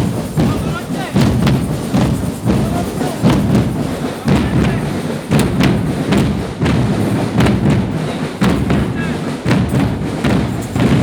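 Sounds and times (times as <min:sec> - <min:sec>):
crowd noise: 0:00.0 - 0:09.8
heavy drum beats: 0:00.0 - 0:11.0.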